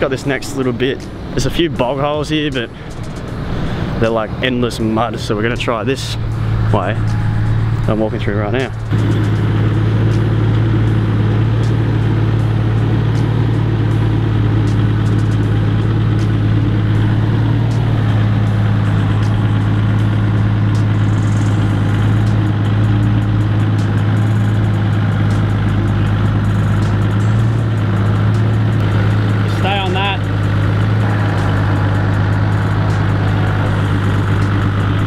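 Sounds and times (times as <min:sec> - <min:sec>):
car engine running at low revs: 0:00.0 - 0:35.0.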